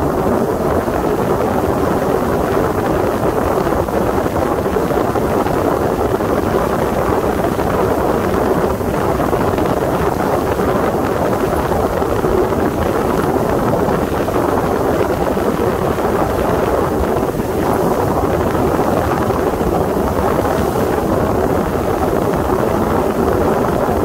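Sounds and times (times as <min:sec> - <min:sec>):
boat engine running: 0:00.0 - 0:24.0
water along boat hull: 0:00.0 - 0:24.0
wind on microphone: 0:00.0 - 0:24.0.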